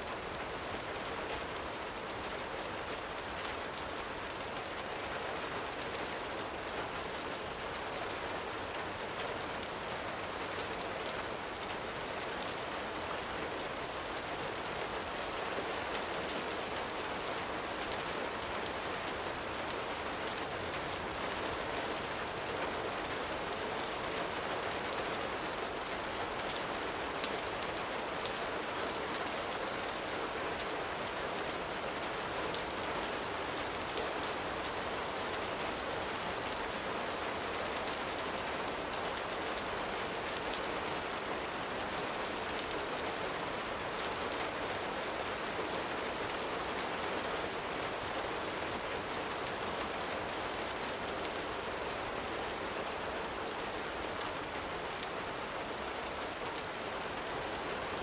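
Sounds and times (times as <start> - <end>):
gentle rain: 0.0 - 58.0.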